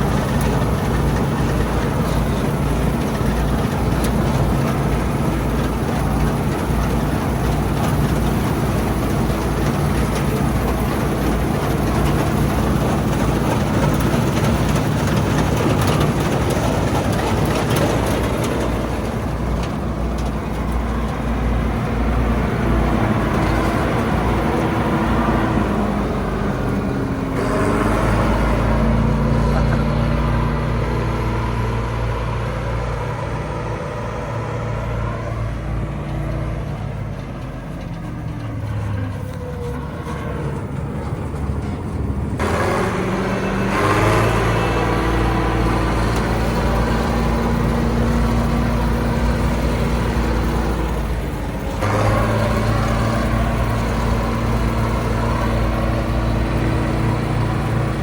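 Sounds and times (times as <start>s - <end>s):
large engine droning: 0.0s - 58.0s.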